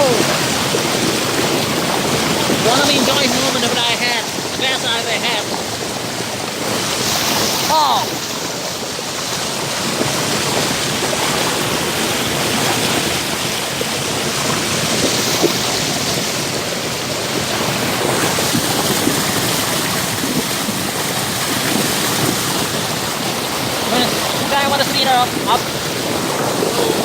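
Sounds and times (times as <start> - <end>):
water rushing over rocks: 0.0 - 27.0.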